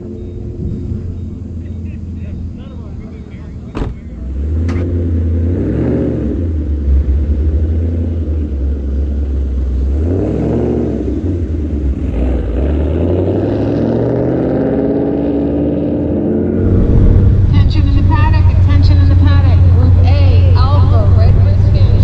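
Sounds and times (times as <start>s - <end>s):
car engine deep rumble: 0.0s - 22.0s.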